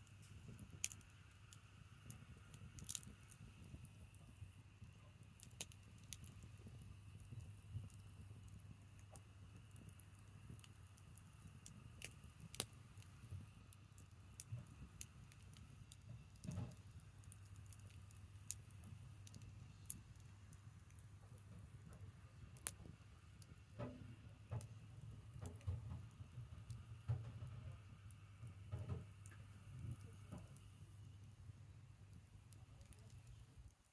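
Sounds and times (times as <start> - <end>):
campfire crackling: 0.0 - 33.9
low steady hum: 0.0 - 33.9.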